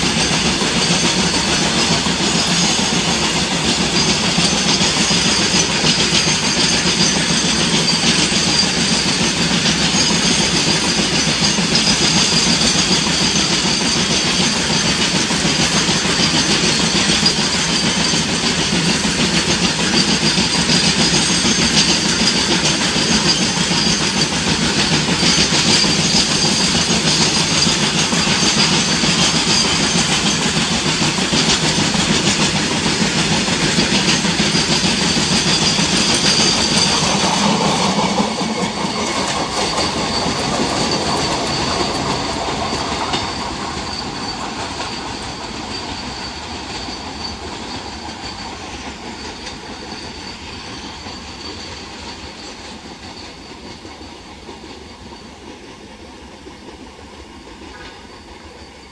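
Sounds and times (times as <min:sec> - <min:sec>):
thin high wheel squeal: 0:00.0 - 0:58.9.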